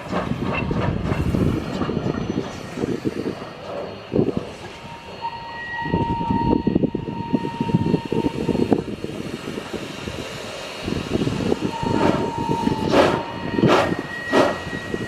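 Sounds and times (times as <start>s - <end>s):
steam train rumbling on rails: 0.0s - 15.0s.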